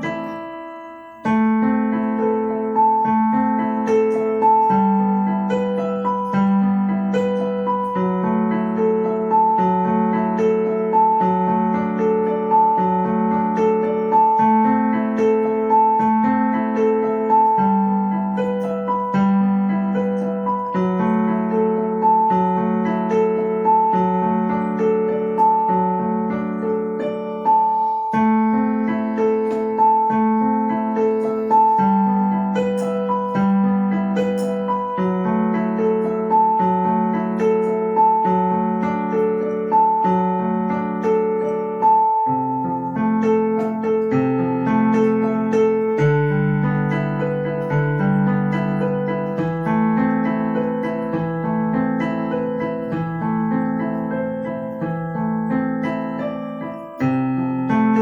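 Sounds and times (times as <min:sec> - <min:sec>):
slow piano pattern: 0:00.0 - 0:58.0.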